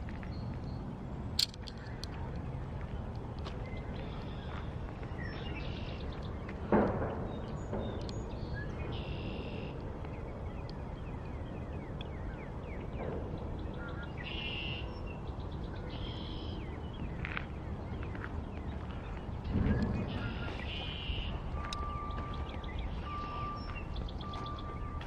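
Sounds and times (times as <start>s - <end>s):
birds calling and chirping: 0.0s - 25.0s
steady outdoor rumble: 0.0s - 25.0s.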